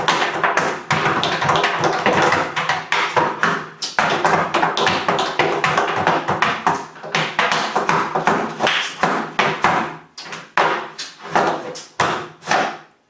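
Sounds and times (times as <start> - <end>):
tap shoes on wooden board: 0.0 - 12.9.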